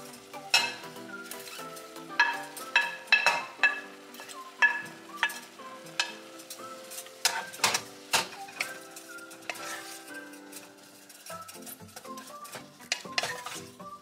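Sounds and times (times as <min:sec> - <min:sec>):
soft background music: 0:00.0 - 0:14.0
wooden spoon scraping and knocking pan: 0:00.0 - 0:14.0.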